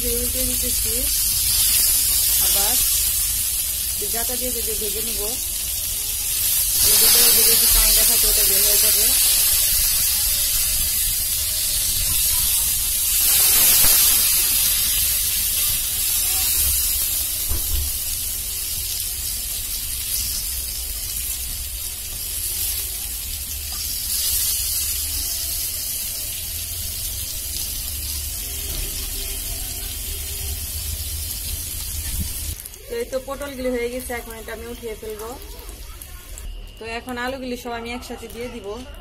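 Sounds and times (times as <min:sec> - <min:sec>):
vegetables sizzling in hot oil: 0:00.0 - 0:38.8.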